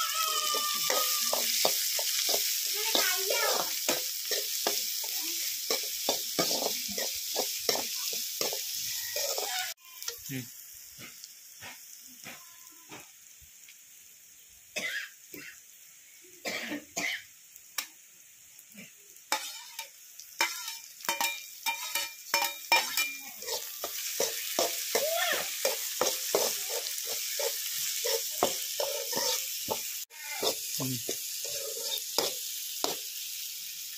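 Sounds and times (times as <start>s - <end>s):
food sizzling in pot: 0.0s - 33.9s.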